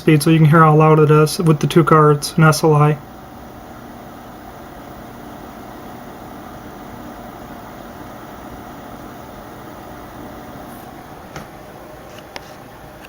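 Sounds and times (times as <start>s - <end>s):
cooling fans whooshing: 0.0s - 13.0s
faint steady hum: 0.0s - 13.0s.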